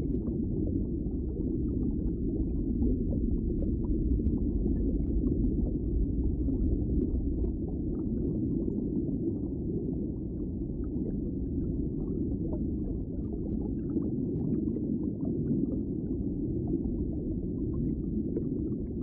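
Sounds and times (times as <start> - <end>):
low underwater rumble: 0.0 - 19.0.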